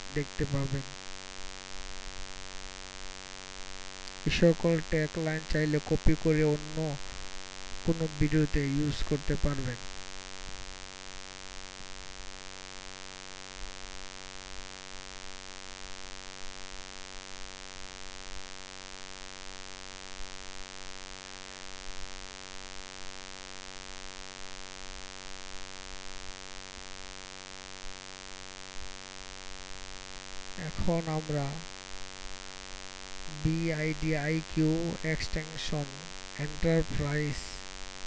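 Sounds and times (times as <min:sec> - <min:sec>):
constant hiss: 0:00.0 - 0:38.0
electrical mains hum: 0:00.0 - 0:38.0.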